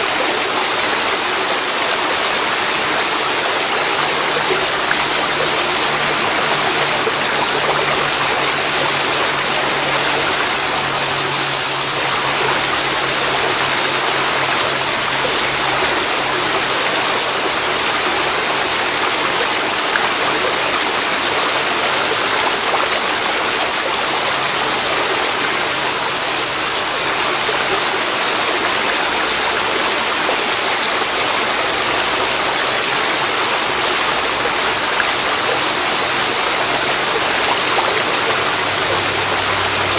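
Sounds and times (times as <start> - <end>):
waterfall pouring into river: 0.0 - 39.9.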